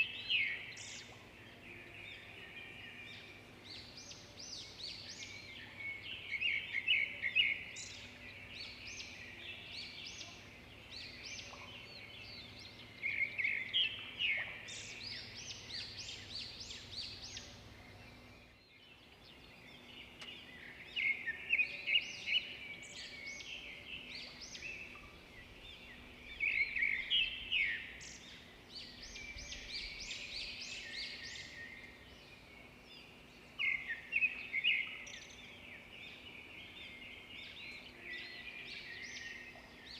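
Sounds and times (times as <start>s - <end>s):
loud trilled birdsong: 0.0s - 39.9s
quiet bird chirps: 0.0s - 39.9s.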